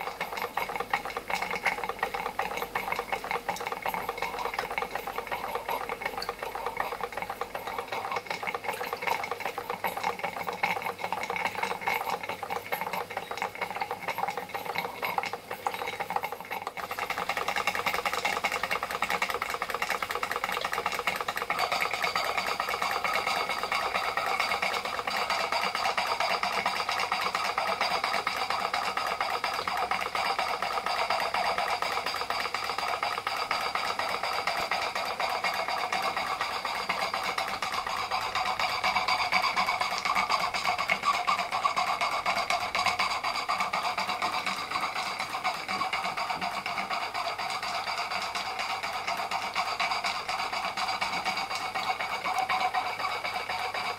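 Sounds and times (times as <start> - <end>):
steam engine clattering: 0.0 - 53.9.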